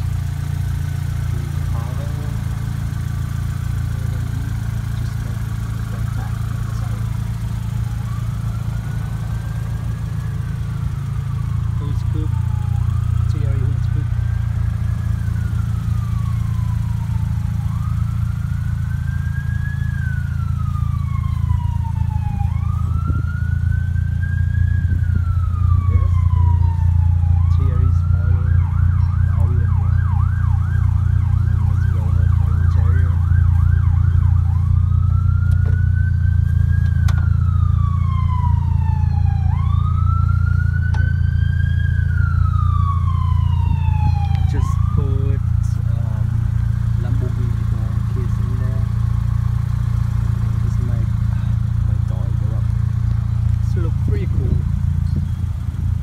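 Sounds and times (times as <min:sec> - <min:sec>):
emergency siren wailing and yelping: 0:00.0 - 0:56.0
steady low drone: 0:00.0 - 0:56.0.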